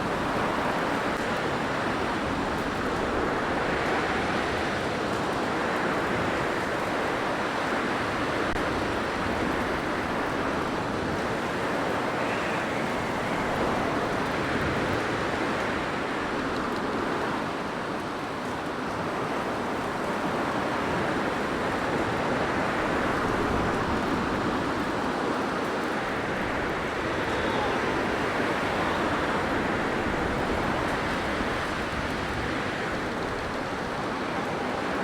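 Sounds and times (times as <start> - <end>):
blizzard wind rushing: 0.0 - 17.8, 19.1 - 35.0.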